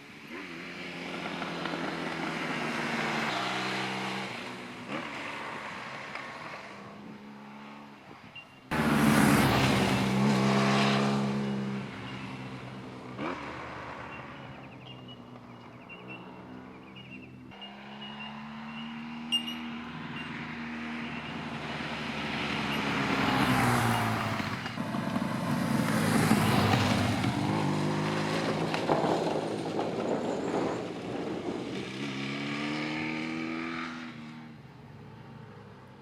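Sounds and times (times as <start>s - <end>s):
motorcycle engine passing by: 0.2s - 36.0s.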